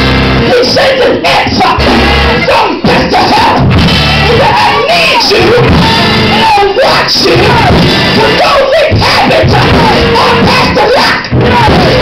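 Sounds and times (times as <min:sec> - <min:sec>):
church worship music: 0:00.0 - 0:12.0
congregation shouting and singing: 0:00.0 - 0:12.0.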